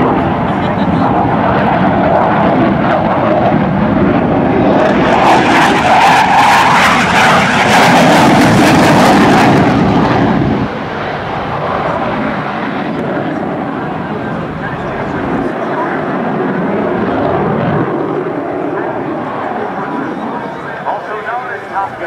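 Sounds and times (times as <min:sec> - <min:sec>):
jet flying past: 0:00.0 - 0:22.0.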